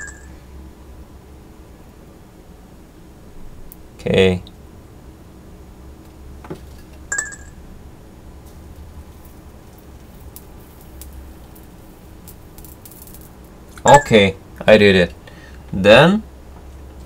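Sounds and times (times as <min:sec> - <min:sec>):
low equipment hum: 0:00.0 - 0:17.0.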